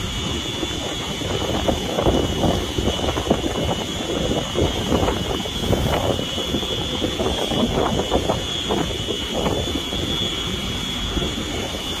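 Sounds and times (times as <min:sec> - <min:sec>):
boat engine rumble: 0:00.0 - 0:12.0
high-pitched whine: 0:00.0 - 0:12.0
wind buffeting microphone: 0:00.0 - 0:12.0.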